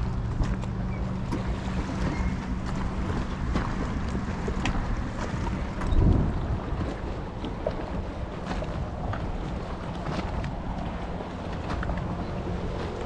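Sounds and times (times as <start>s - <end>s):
choppy river water: 0.0s - 13.0s
wind buffeting microphone: 0.0s - 13.0s.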